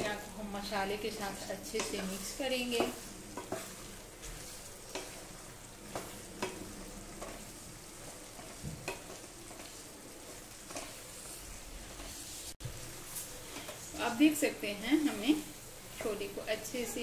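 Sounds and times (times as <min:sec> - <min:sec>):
spatula scraping a pan: 0:00.0 - 0:14.3
food sizzling in a pan: 0:00.0 - 0:17.0.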